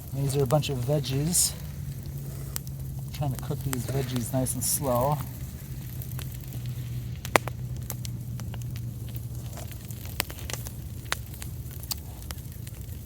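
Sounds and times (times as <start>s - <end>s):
campfire crackling and popping: 0.0s - 13.0s
steady low rumble: 0.0s - 13.0s.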